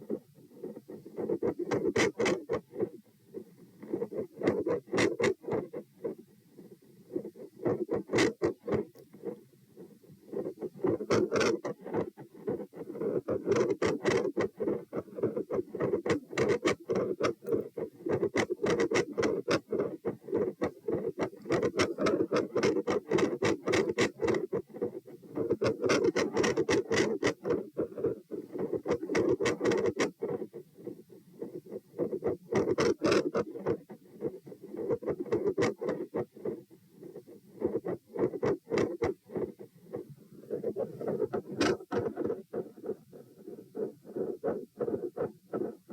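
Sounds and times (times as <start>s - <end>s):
stethoscope scratchy rubbing: 0.0s - 45.9s.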